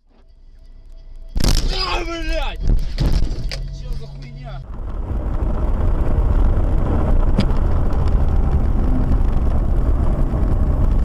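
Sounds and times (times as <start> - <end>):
car rumble: 0.0 - 11.0.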